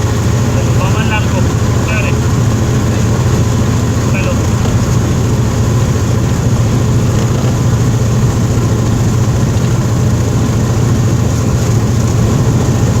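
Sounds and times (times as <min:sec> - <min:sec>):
aircraft piston engine drone: 0:00.0 - 0:13.0.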